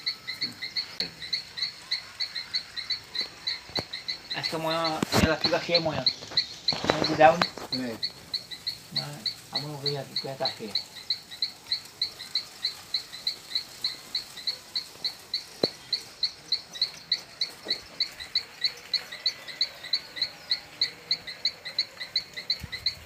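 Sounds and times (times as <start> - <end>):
small animal chirping: 0.0 - 23.0.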